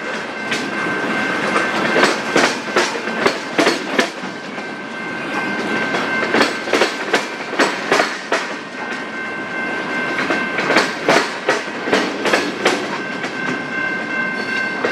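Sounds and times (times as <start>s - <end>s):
train wheels clicking over rail joints: 0.0s - 13.7s.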